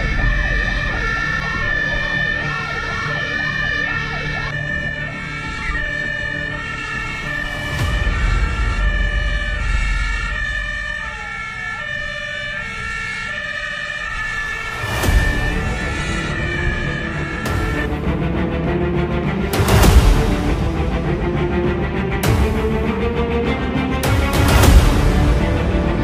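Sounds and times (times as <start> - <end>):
rising and falling siren tones: 0.0 - 21.3
two-tone hi-lo siren: 0.0 - 21.6
truck engine rumbling: 0.0 - 26.0.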